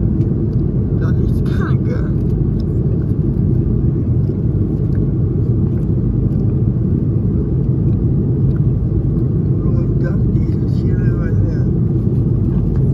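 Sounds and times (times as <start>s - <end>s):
jet engine cabin rumble: 0.0s - 12.9s.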